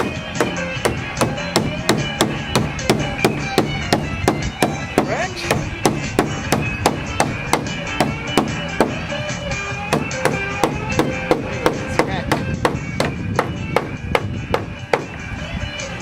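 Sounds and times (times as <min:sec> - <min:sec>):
held chords: 0:00.0 - 0:16.0.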